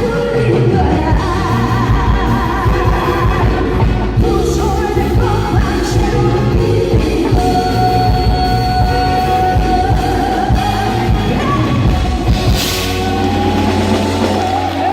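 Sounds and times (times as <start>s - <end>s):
drum kit beat: 0.0s - 14.9s.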